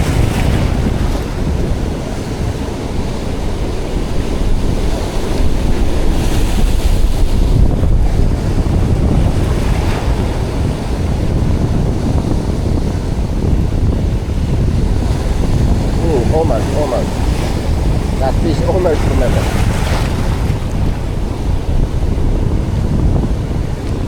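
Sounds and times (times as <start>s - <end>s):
surf breaking on shore: 0.0s - 24.0s
wind buffeting microphone: 0.0s - 24.0s.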